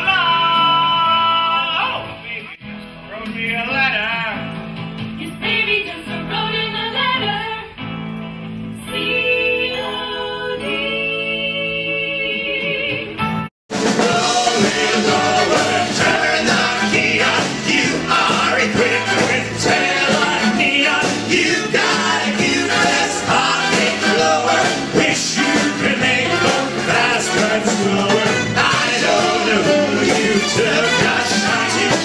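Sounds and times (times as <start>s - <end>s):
band music with singing: 0.0s - 7.9s, 8.8s - 32.0s.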